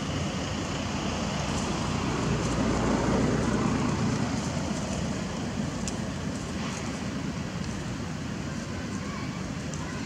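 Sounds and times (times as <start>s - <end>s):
low rumbling background noise: 0.0s - 10.0s.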